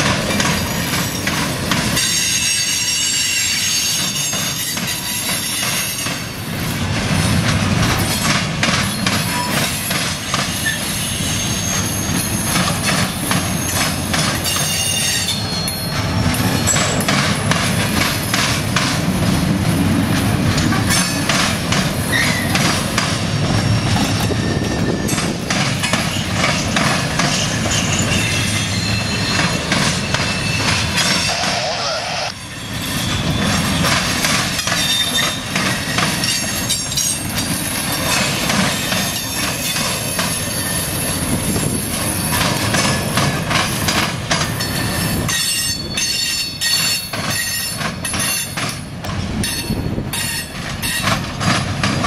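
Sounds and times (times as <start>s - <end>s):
train wheels banging over crossing: 0.0s - 31.8s, 32.5s - 52.0s
steel wheel flanges squealing: 0.4s - 6.3s, 8.0s - 18.6s, 22.0s - 51.2s.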